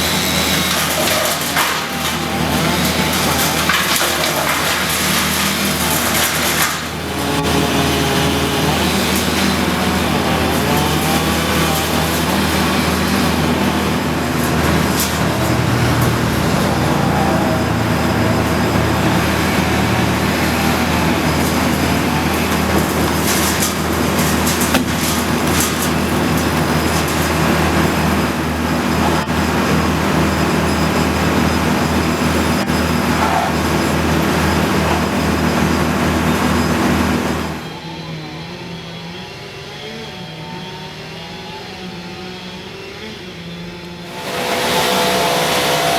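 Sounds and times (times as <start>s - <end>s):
heavy machinery engine: 0.0s - 45.9s.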